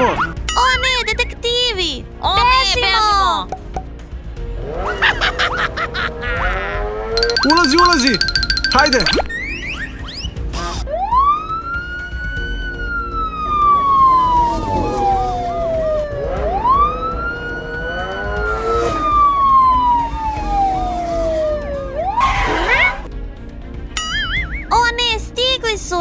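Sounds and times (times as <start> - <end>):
light background music: 0.0 - 26.0.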